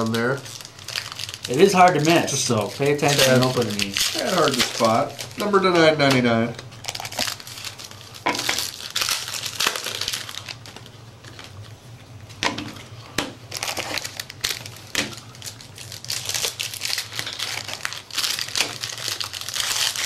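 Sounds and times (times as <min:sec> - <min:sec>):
foil wrappers crinkling: 0:00.0 - 0:11.8, 0:12.7 - 0:20.0.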